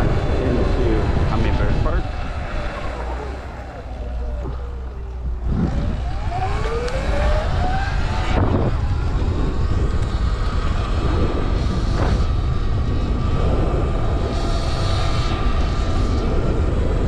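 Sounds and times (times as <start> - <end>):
electric motor whining: 0.0 - 16.7
wind rumble on microphone: 0.0 - 17.0.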